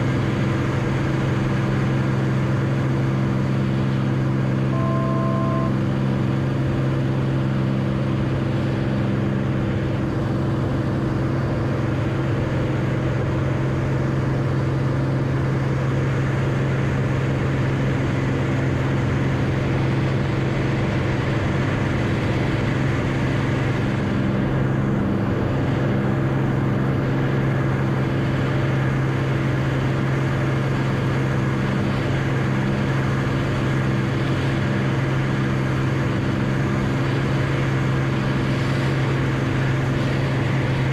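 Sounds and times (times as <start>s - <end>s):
light airplane engine drone: 0.0s - 40.9s.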